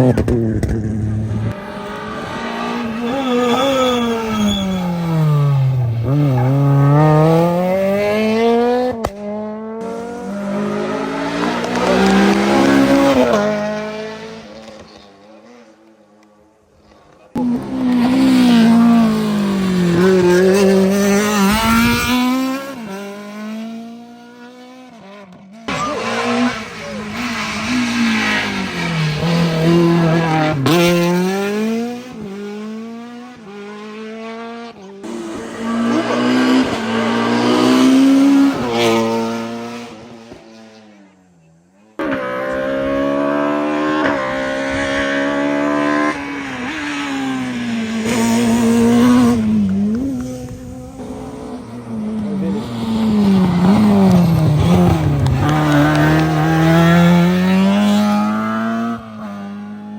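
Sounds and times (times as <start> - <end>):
rally car engines revving high: 0.0 - 15.9, 17.1 - 41.2, 42.0 - 59.9.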